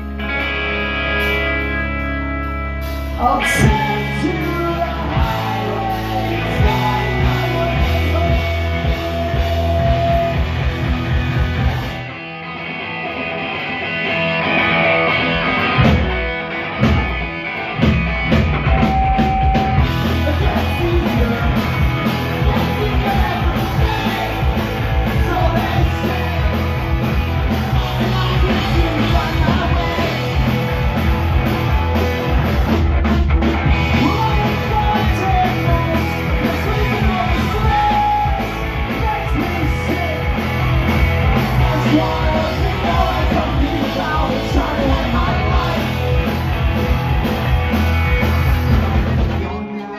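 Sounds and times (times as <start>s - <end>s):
live punk rock band: 0.0s - 49.9s.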